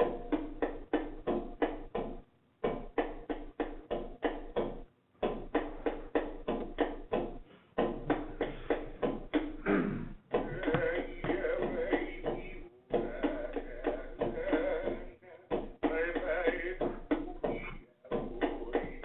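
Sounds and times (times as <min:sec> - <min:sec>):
drum beaten in steady rhythm: 0:00.0 - 0:09.6, 0:10.3 - 0:19.0.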